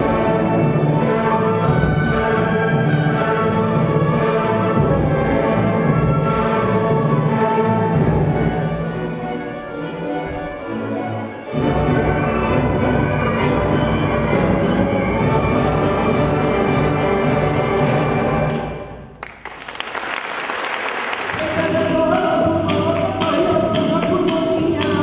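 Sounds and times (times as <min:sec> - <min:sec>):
orchestra playing: 0:00.0 - 0:19.2, 0:21.2 - 0:25.0.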